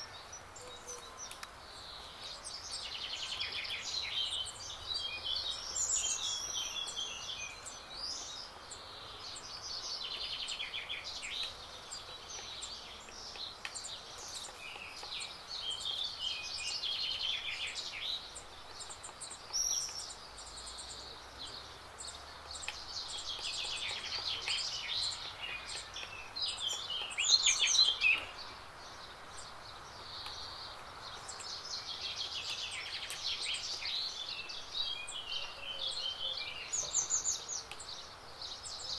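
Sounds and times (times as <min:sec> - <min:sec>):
faint steady background hiss: 0:00.0 - 0:38.9
songbirds chirping and trilling: 0:00.0 - 0:38.9.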